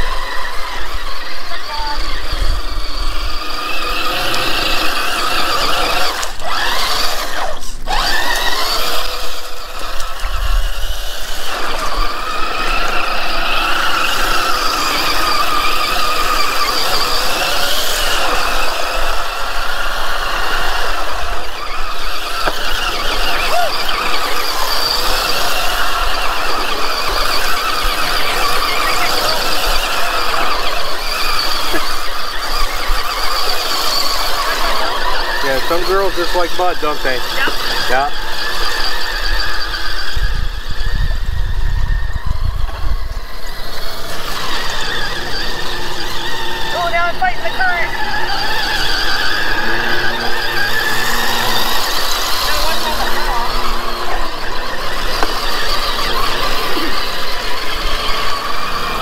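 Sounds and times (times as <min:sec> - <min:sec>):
toy car electric motor whine: 0:00.0 - 0:59.0.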